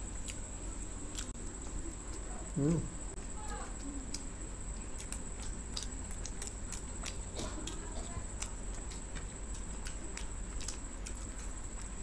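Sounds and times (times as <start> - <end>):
people chewing and lip-smacking: 0.0 - 12.0.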